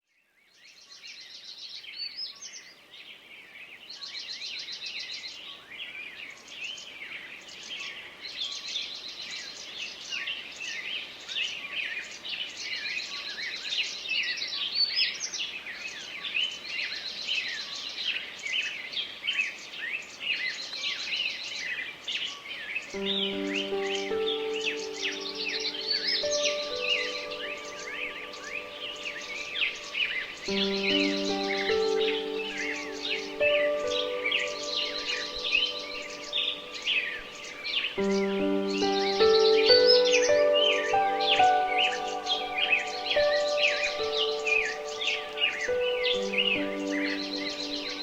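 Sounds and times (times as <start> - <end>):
songbirds chirping: 0.1 - 48.0.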